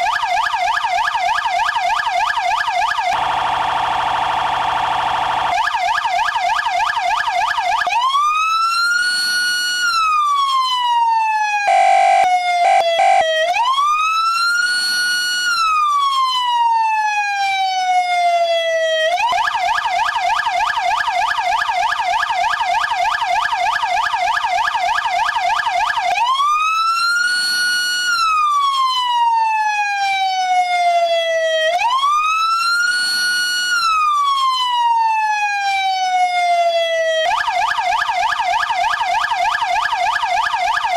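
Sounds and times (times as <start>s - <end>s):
rapidly pulsing siren tone: 0.0s - 10.6s, 11.6s - 16.5s, 19.2s - 29.1s, 31.8s - 34.8s, 36.3s - 40.9s
harsh siren blasts: 0.0s - 40.9s
police siren wailing: 0.0s - 40.9s.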